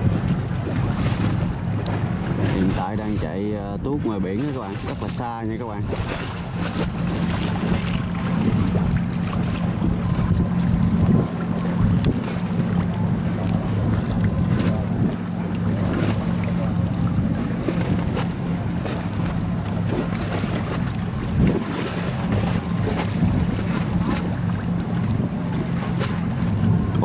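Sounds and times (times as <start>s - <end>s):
low engine drone: 0.0s - 27.0s
wind buffeting microphone: 0.0s - 27.0s.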